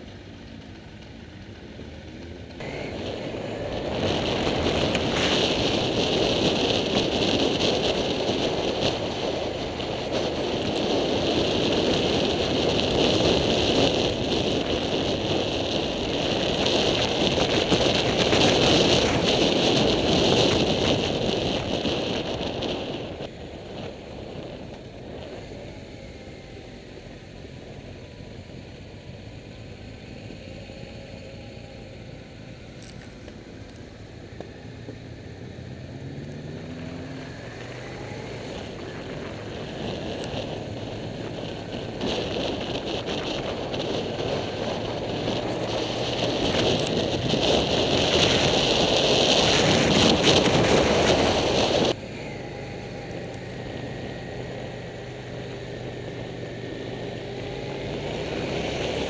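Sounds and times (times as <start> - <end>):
motorcycle engine running: 0.0 - 59.0
wind rushing on microphone: 2.6 - 59.0.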